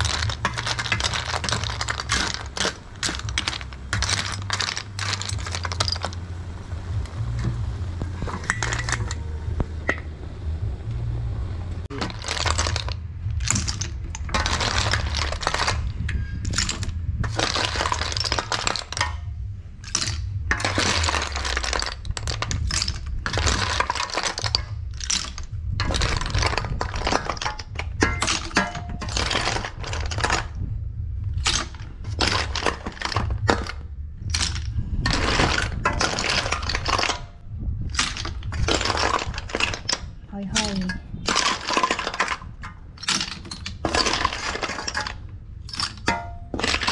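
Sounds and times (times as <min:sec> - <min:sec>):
snail shells clattering in metal basin: 0:00.0 - 0:10.1, 0:11.9 - 0:46.9
steady low rumble: 0:00.0 - 0:46.9.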